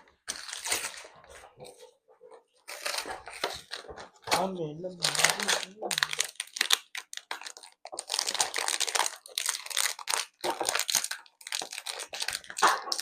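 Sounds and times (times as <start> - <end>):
plastic packaging crinkling: 0.0 - 1.9, 2.6 - 13.0.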